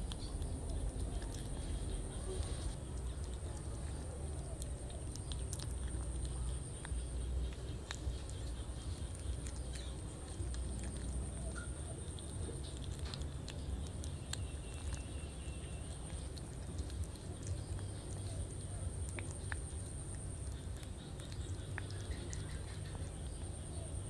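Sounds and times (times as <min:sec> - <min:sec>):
kitten chewing wetly: 0:00.0 - 0:24.0.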